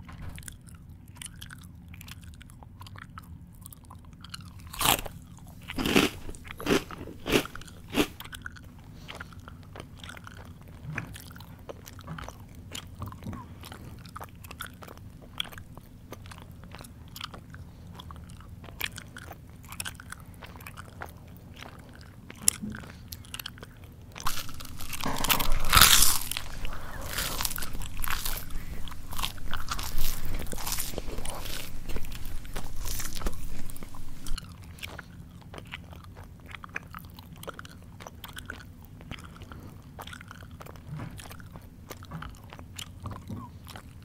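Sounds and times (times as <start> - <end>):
crunching crunchy food: 0.3 - 44.0.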